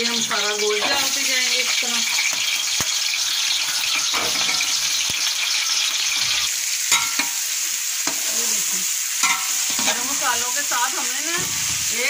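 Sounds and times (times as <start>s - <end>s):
chicken sizzling in hot fat: 0.0s - 12.0s.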